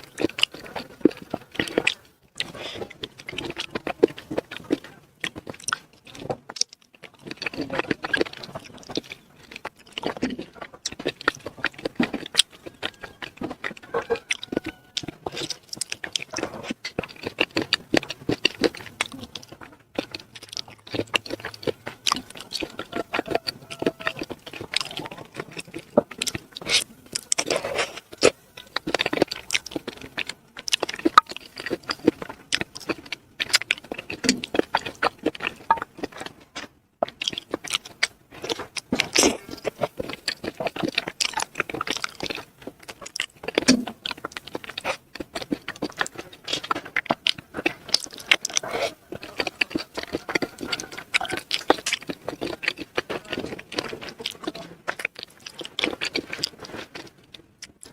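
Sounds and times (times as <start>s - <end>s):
chewing and crunching: 0.0s - 57.9s.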